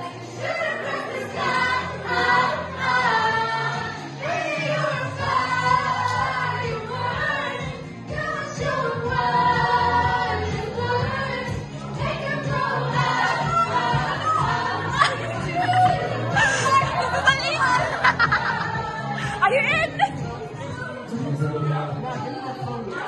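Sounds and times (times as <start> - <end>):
group singing into microphones: 0.0 - 23.0
backing track: 0.1 - 23.0.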